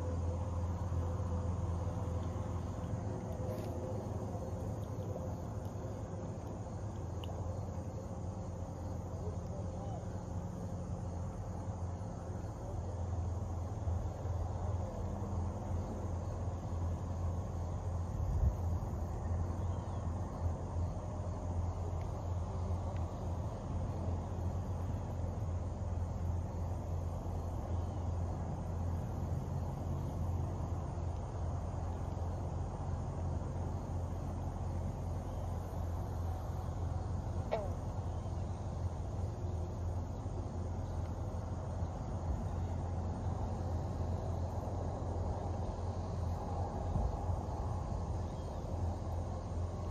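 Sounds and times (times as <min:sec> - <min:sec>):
faint insect chirring: 0:00.0 - 0:49.9.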